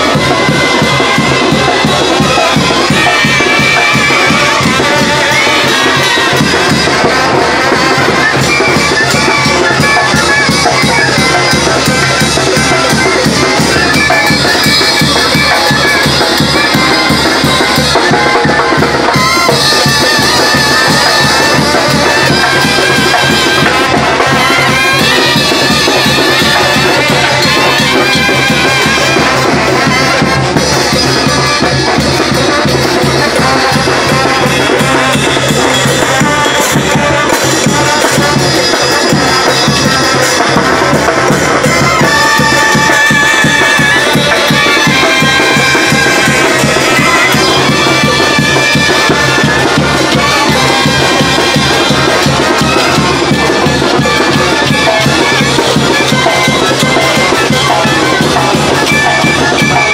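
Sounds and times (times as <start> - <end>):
brass band playing loud: 0.0 - 59.9.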